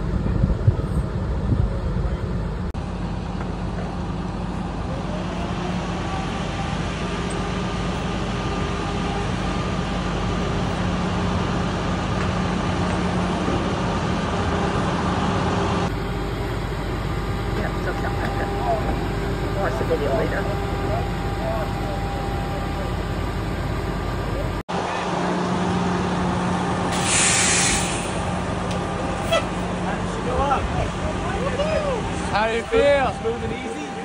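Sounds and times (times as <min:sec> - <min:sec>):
electric truck hum and whine: 0:00.0 - 0:34.0.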